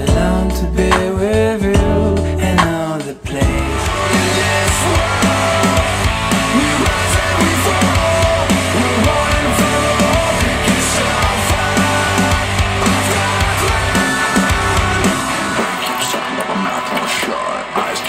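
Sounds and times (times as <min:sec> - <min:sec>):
instrumental rock music: 0:00.0 - 0:18.0.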